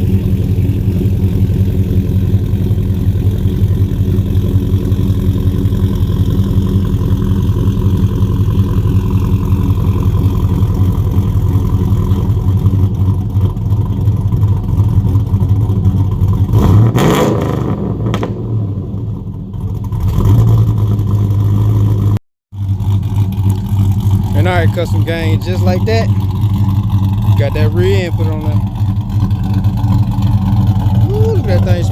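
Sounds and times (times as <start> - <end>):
car engine idling: 0.0 - 16.8, 18.1 - 31.9.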